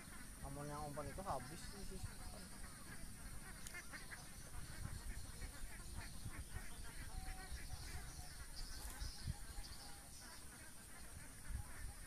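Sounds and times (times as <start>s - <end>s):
high insect buzz: 0.0s - 12.0s
wind rumbling on microphone: 0.0s - 12.0s.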